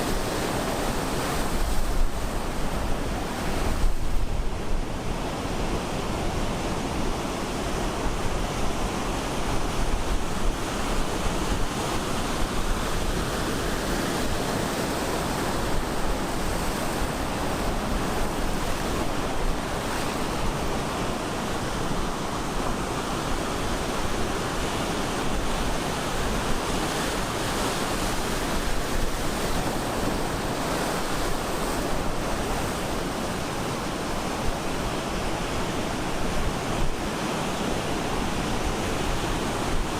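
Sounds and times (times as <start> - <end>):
surf breaking on the shore: 0.0 - 39.9
wind noise on the microphone: 0.0 - 39.9.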